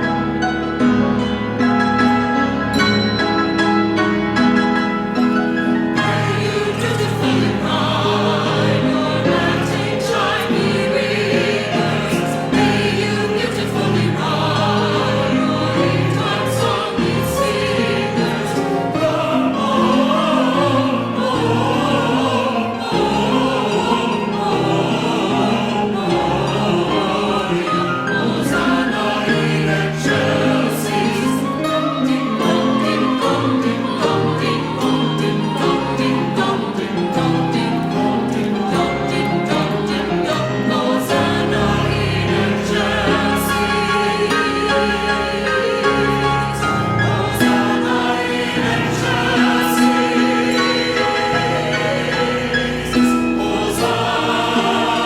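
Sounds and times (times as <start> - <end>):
church choir singing: 0.0 - 55.0
instrumental accompaniment: 0.0 - 55.0.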